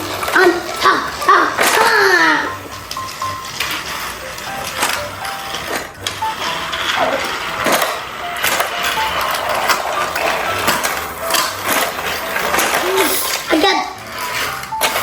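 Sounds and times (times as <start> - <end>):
plastic toy train clattering: 0.0 - 15.0.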